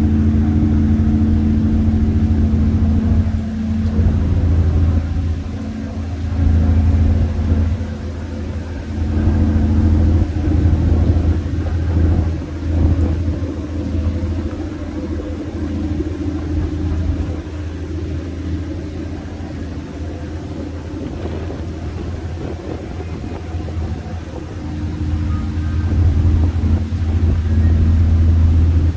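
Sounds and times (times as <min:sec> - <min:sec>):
ferry engine droning: 0:00.0 - 0:28.9.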